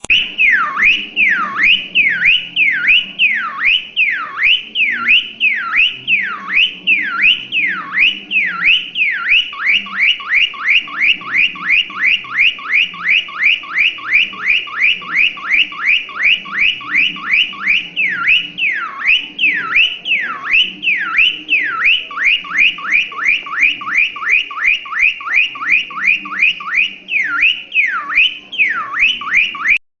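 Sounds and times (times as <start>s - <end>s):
cockatiel whistling siren imitation: 0.0s - 29.8s.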